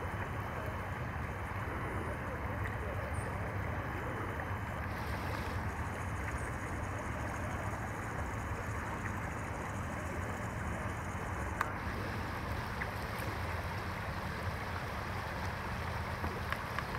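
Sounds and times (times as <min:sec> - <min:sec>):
river flowing over rocks: 0:00.0 - 0:16.9.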